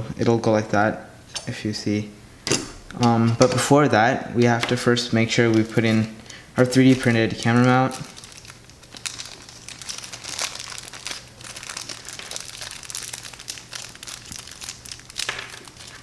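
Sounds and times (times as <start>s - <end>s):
plastic packaging crinkling: 3.1s - 16.0s.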